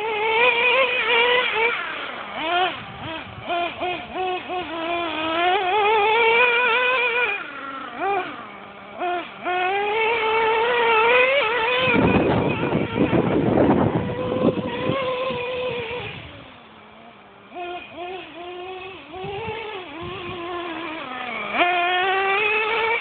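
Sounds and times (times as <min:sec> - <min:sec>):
model truck engine revving: 0:00.0 - 0:23.0.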